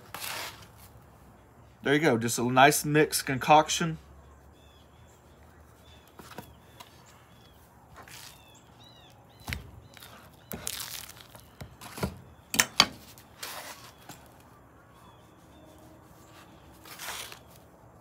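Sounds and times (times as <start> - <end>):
small birds chirping: 3.2 - 17.7.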